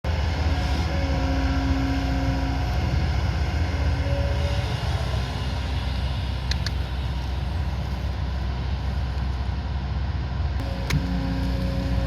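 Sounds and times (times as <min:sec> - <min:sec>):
diesel engine rumbling: 0:00.0 - 0:12.0
faint whining tones: 0:00.1 - 0:09.6, 0:10.6 - 0:12.0.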